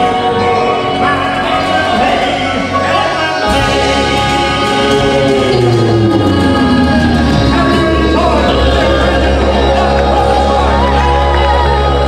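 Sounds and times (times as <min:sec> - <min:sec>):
backing music: 0:00.0 - 0:12.0
male quartet singing gospel: 0:00.0 - 0:12.0.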